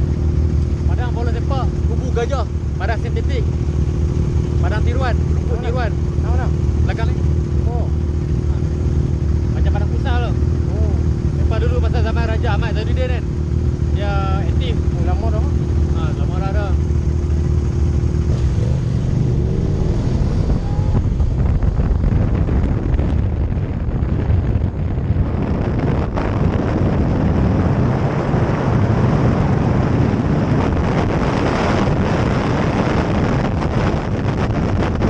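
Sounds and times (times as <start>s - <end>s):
motorcycle engine and road noise: 0.0s - 35.0s
wind rushing over microphone: 0.0s - 35.0s.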